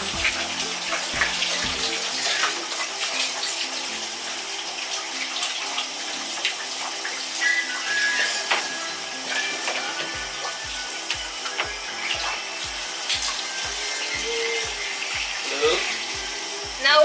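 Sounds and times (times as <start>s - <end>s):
shower water spraying: 0.0s - 17.0s.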